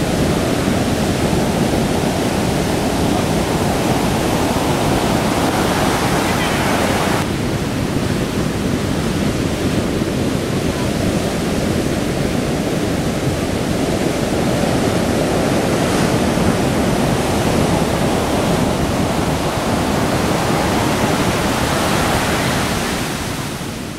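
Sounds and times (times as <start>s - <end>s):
ocean surf breaking on beach: 0.0s - 23.9s.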